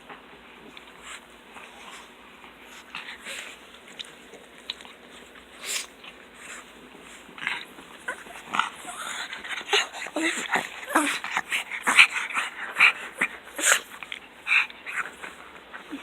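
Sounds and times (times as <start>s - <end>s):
dogs snuffling and grunting: 0.0s - 16.0s.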